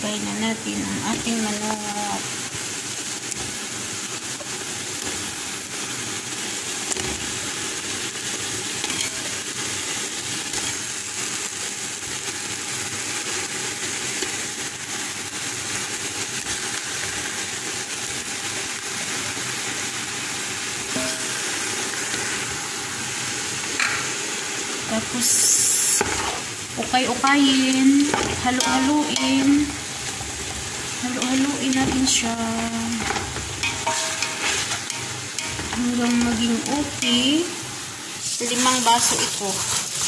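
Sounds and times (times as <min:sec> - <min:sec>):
chicken sizzling in oil: 0:00.0 - 0:40.0.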